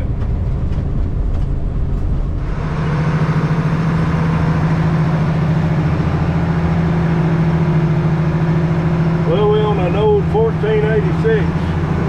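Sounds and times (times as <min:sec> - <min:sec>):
low vehicle rumble: 0:00.0 - 0:12.0
tractor diesel engine running: 0:00.0 - 0:12.0.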